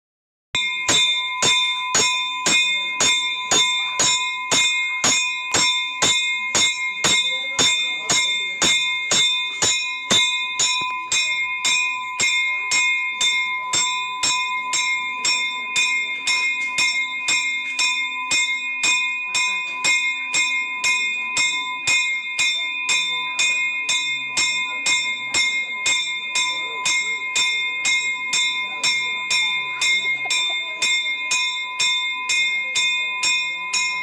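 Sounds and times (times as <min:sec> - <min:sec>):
temple bell ringing: 0:00.6 - 0:34.0.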